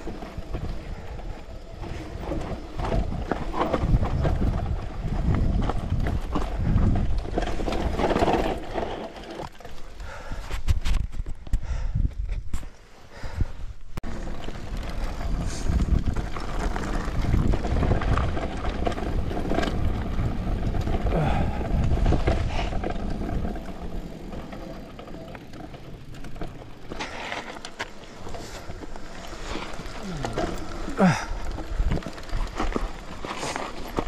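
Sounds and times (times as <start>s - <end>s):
bike rattling and knocking: 0.0s - 12.7s, 14.0s - 34.0s
tyres on rough trail: 0.0s - 34.0s
wind rumbling on microphone: 0.0s - 34.0s.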